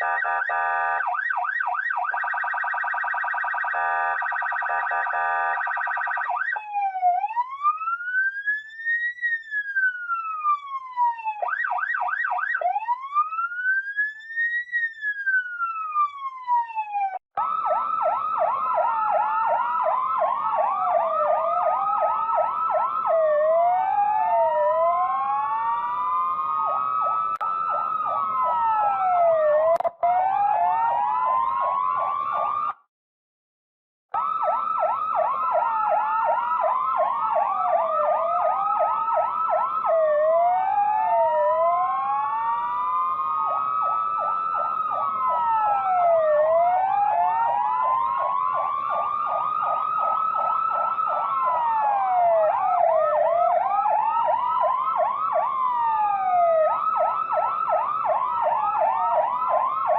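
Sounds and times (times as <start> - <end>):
police siren wailing: 0.0 - 32.8, 34.2 - 59.9
several sirens wailing and yelping: 0.0 - 32.8, 34.2 - 59.9.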